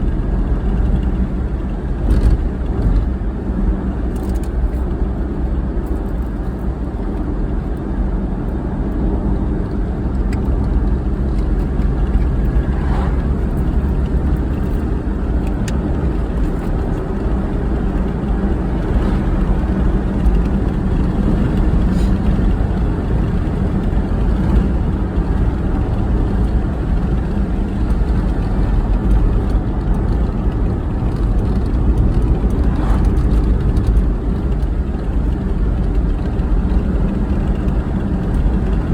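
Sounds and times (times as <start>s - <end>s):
car engine and tyre road noise: 0.0s - 38.9s.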